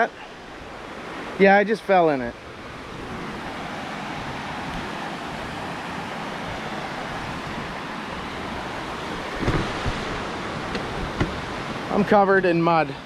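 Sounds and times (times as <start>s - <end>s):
creek and waterfall rushing: 0.0s - 13.0s.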